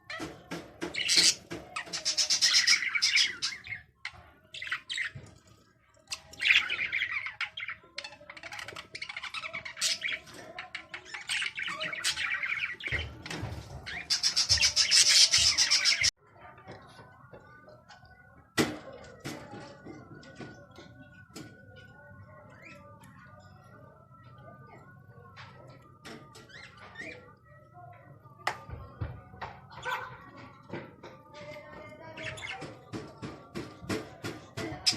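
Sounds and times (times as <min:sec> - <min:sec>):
small birds chirping: 0:00.0 - 0:16.2, 0:19.4 - 0:33.7.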